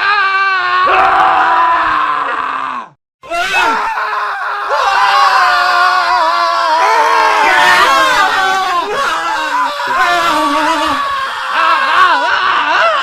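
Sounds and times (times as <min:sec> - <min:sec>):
men screaming: 0:00.0 - 0:13.0.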